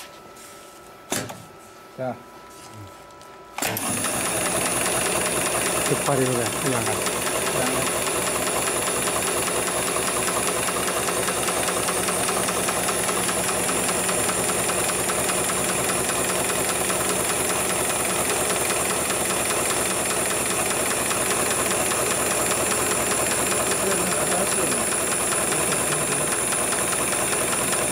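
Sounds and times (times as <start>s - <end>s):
sewing machine stitching: 3.6s - 27.9s.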